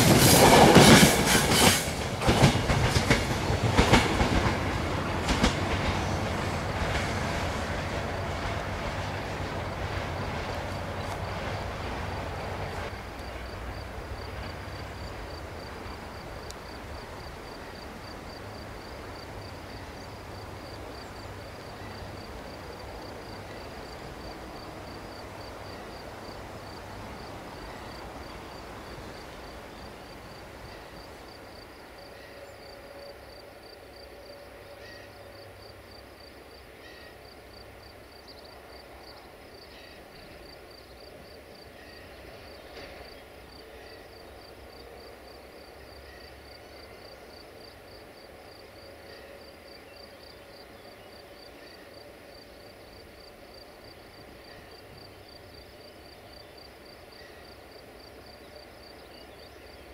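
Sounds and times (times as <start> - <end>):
passenger train rumbling by: 0.0 - 59.9
insect chirping: 9.1 - 59.9.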